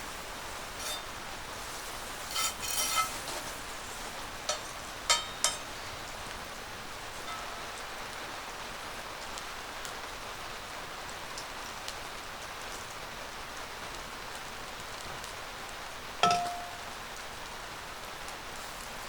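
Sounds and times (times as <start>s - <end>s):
rain pattering on a roof: 0.0s - 19.0s.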